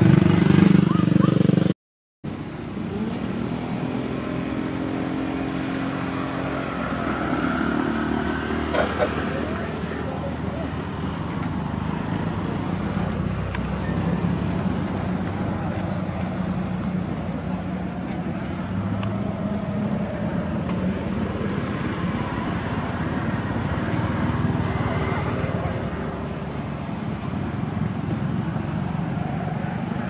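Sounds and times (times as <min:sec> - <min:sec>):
road traffic noise: 0:00.0 - 0:30.0
vehicle engine humming: 0:02.3 - 0:30.0.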